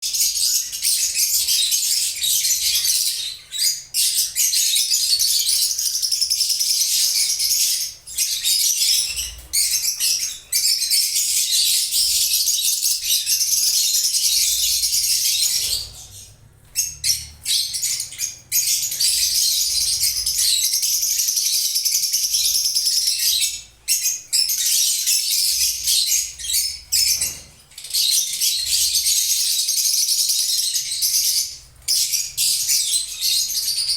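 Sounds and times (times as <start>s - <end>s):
lovebirds chirping: 0.0s - 33.9s.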